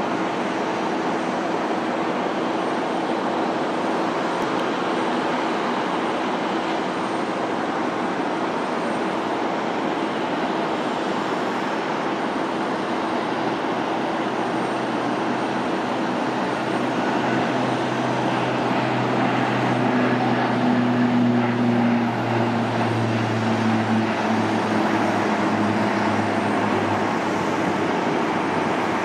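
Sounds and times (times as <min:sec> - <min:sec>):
distant turboprop plane taking off: 0:00.0 - 0:29.0.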